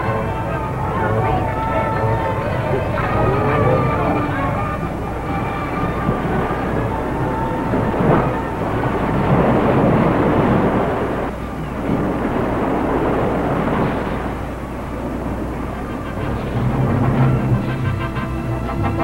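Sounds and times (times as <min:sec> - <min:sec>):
crowd noise: 0:00.0 - 0:19.0
surf rushing: 0:00.0 - 0:19.0.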